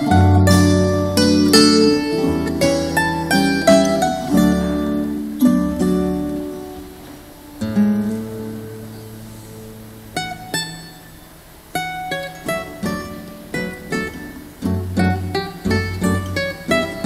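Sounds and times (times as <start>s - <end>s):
plucked string instruments: 0.0s - 17.0s.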